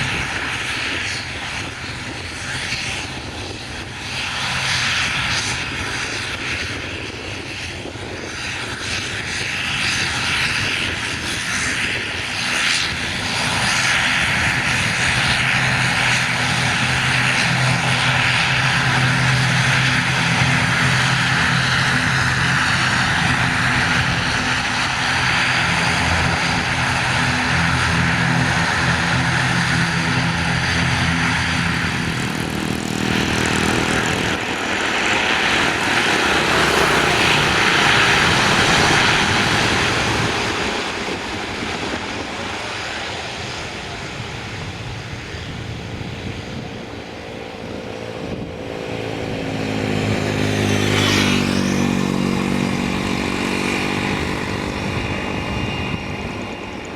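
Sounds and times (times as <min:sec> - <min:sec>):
airliner engines roaring: 0:00.0 - 0:56.9.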